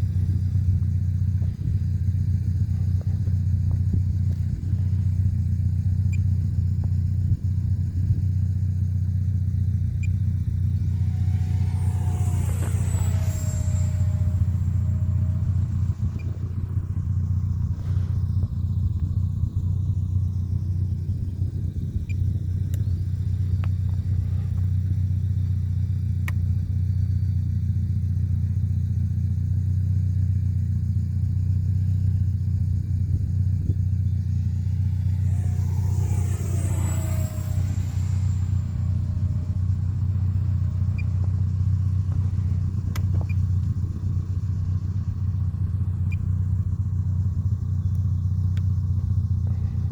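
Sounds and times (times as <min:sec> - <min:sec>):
low rumble: 0:00.0 - 0:25.1, 0:32.1 - 0:49.9
model jet whine passing: 0:00.0 - 0:28.4, 0:30.7 - 0:49.9.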